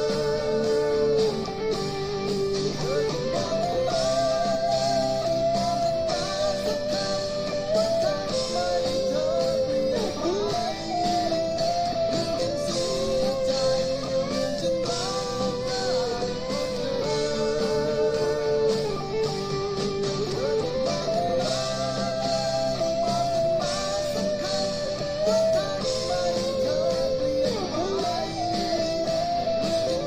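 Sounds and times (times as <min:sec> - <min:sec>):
electric guitar melody: 0:00.0 - 0:30.0.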